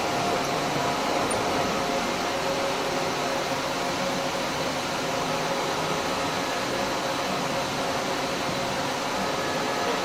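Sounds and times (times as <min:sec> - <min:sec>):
lathe machine hum: 0:00.0 - 0:10.0.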